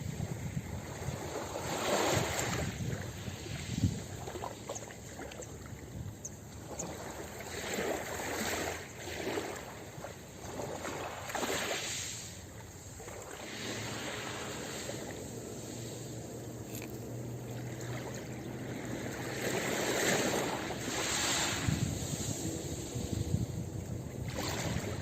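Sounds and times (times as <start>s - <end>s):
ocean waves washing onto beach: 0.0s - 25.0s.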